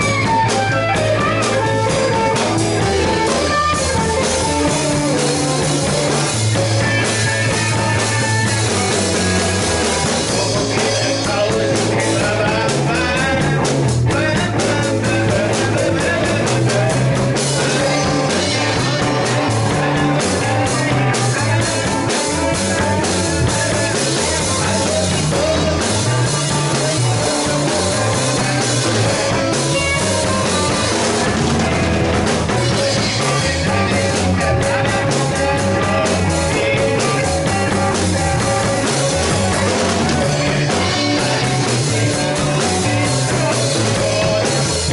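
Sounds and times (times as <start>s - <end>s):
bass line: 0.0s - 44.9s
drum kit: 0.0s - 44.9s
electric guitars: 0.0s - 44.9s.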